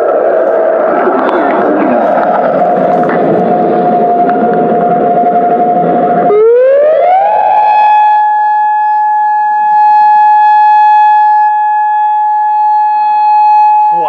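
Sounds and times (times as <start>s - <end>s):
electronic warning siren: 0.0s - 14.0s.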